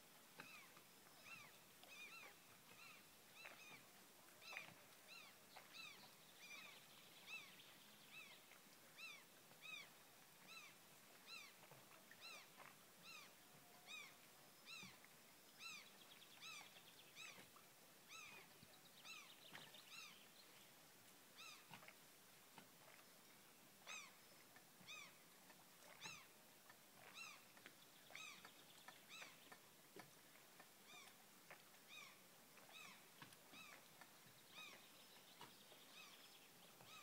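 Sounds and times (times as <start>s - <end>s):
faint bird calls: 0.4s - 20.3s, 21.4s - 21.8s, 23.8s - 25.2s, 25.8s - 26.3s, 27.0s - 29.6s, 30.8s - 31.2s, 31.8s - 37.0s.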